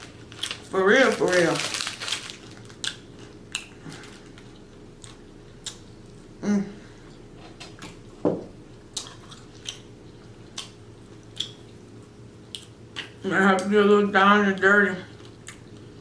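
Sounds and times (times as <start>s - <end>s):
close chewing and mouth sounds: 0.0s - 6.3s, 8.7s - 13.8s, 14.4s - 16.0s.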